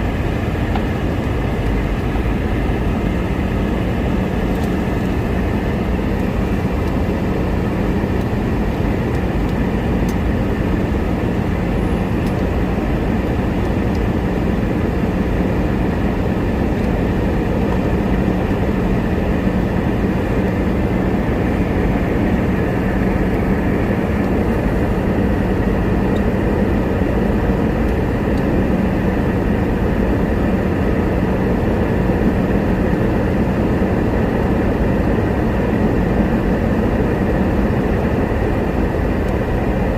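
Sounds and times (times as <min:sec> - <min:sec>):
aircraft cabin engine hum: 0:00.0 - 0:39.9.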